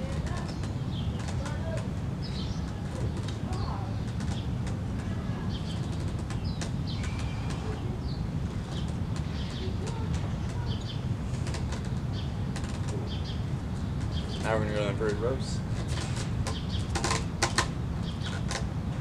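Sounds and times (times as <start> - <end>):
small birds chirping: 0.0 - 17.3, 18.0 - 18.7
steady low rumble: 0.0 - 19.0.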